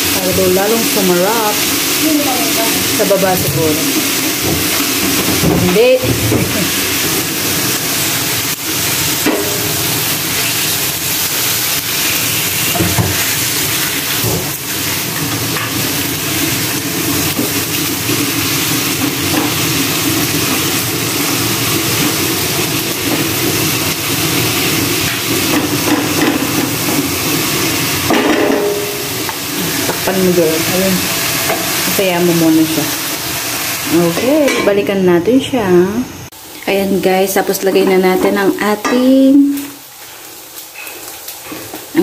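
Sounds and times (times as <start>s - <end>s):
chicken sizzling in a frying pan: 0.0s - 42.0s.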